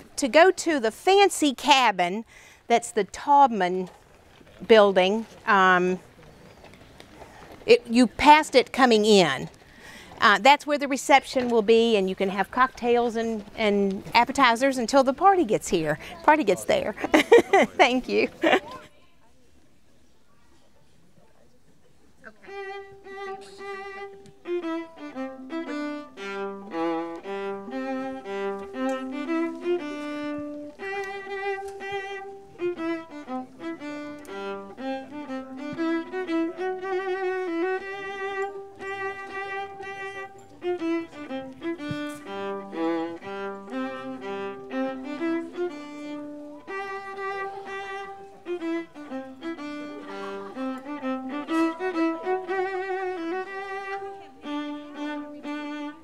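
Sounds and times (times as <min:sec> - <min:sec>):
violin melody: 0:03.0 - 0:06.1, 0:06.7 - 0:18.7, 0:22.2 - 0:56.0.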